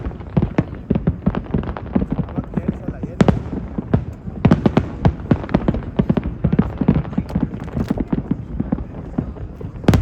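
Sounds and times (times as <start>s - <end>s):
fireworks popping and banging: 0.0s - 10.0s.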